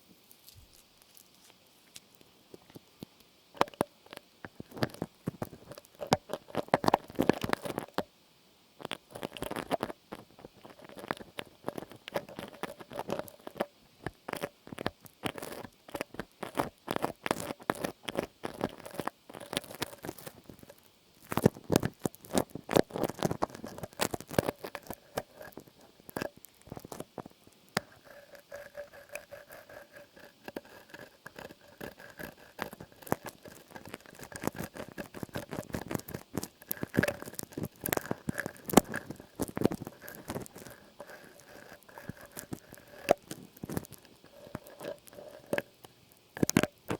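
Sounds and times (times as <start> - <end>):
light tapping and scratching clicks: 0.3 - 8.1, 8.8 - 46.9.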